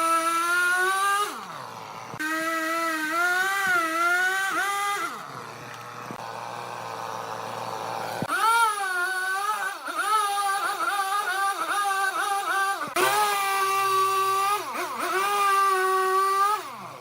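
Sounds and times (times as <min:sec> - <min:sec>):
wood lathe motor whine: 0:00.0 - 0:17.0.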